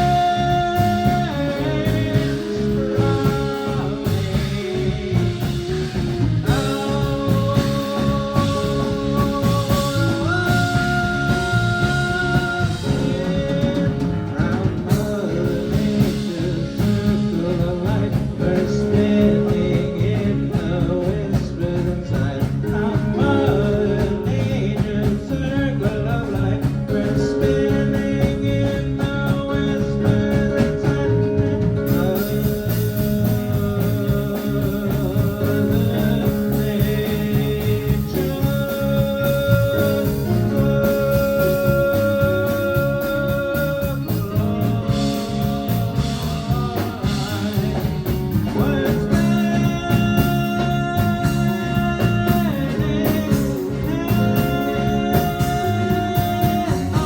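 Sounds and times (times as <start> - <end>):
electric guitar melody: 0.0 - 57.0
live rock band playing: 0.0 - 57.0.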